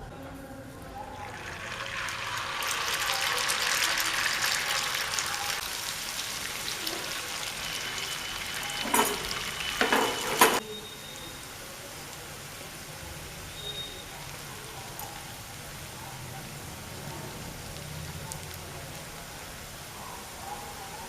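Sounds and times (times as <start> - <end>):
noodles sizzling in hot oil: 0.8 - 21.0.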